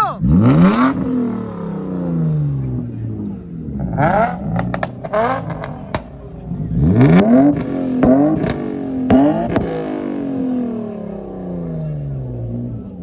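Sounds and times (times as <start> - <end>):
car engine revving: 0.2 - 13.0.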